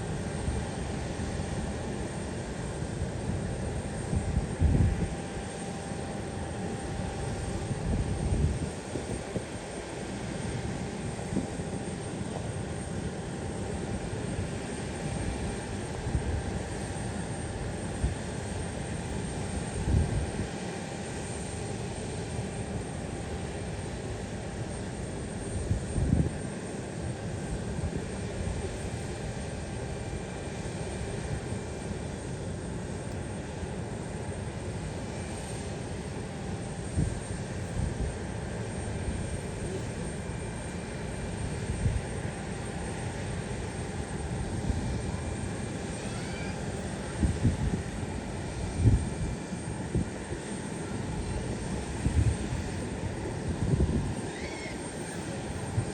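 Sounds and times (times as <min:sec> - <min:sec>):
distant airliner engines whining: 0:00.0 - 0:55.9.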